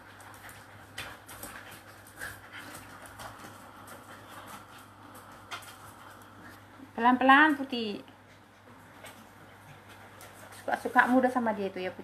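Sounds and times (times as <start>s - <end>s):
dogs panting: 0.0s - 7.0s, 8.0s - 11.5s
dogs scuffling: 0.0s - 7.7s, 8.3s - 12.0s.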